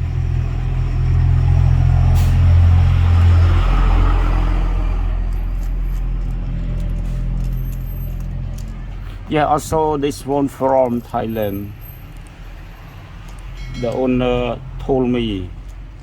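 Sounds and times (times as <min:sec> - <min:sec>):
motor vehicle rumble: 0:00.0 - 0:16.0.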